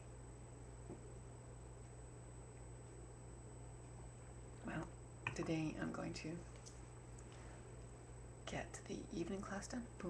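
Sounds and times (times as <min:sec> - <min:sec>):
faint high whine: 0:00.0 - 0:10.0
low hum: 0:00.0 - 0:10.0.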